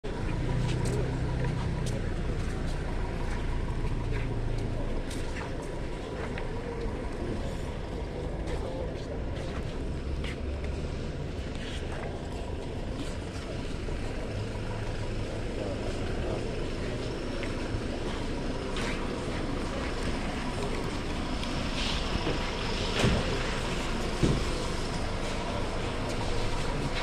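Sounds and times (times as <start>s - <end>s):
outdoor background rumble: 0.0s - 27.0s
faint crowd voices: 0.1s - 27.0s.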